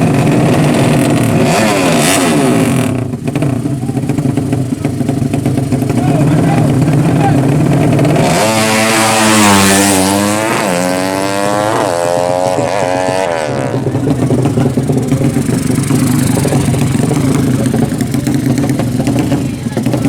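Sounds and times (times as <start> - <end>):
racing motorcycle accelerating: 0.0 - 20.0.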